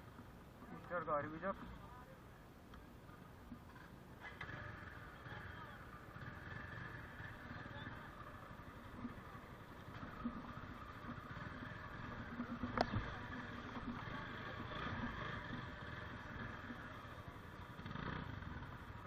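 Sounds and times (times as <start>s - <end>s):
motorcycle engine running: 3.1s - 19.0s.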